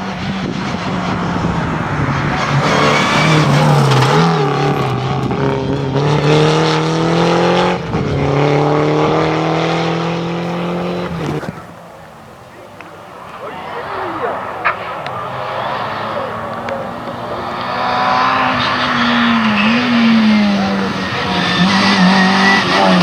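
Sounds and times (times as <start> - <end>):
rally car engine accelerating: 0.0 - 23.0.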